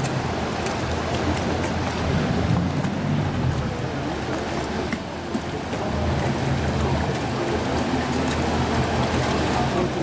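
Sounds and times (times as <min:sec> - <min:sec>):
boat engine humming: 0:00.0 - 0:10.0
river rushing: 0:00.0 - 0:10.0.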